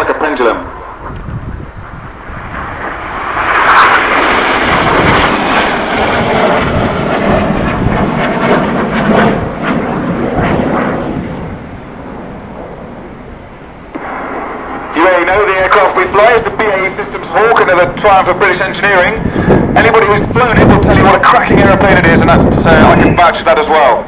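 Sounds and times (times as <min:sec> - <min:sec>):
jet engines passing overhead: 0:00.0 - 0:24.0.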